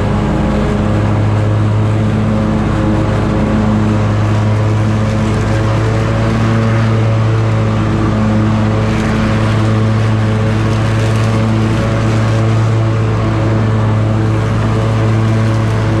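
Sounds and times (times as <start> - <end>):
lawn mower engine droning: 0.0 - 16.0.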